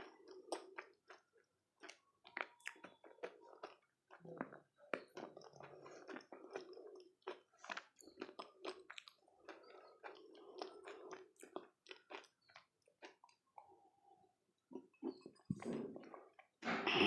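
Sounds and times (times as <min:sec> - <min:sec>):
crunchy food chewing: 0:00.0 - 0:13.8.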